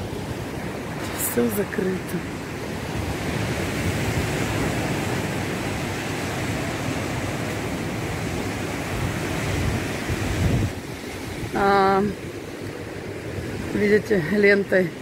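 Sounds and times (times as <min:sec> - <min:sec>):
surf washing up pebble beach: 0:00.0 - 0:13.9
wind rumbling on microphone: 0:00.0 - 0:15.0.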